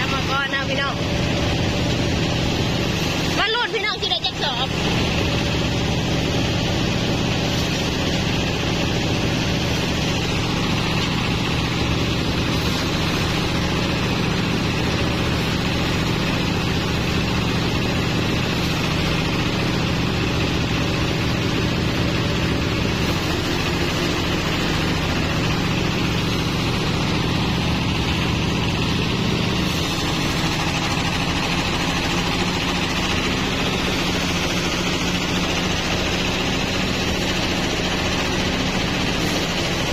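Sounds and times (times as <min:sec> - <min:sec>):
threshing machine running: 0:00.0 - 0:39.9.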